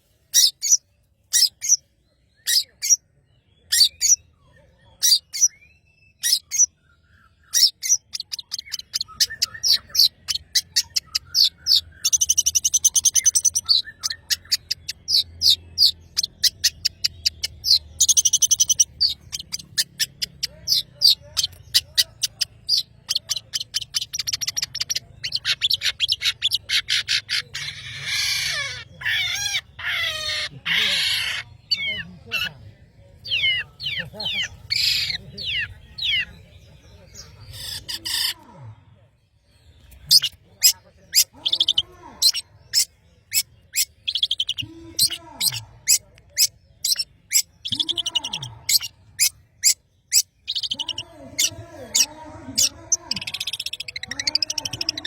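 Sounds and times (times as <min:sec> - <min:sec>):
bird rasping phrases: 0:07.4 - 0:39.0, 0:39.8 - 0:55.0.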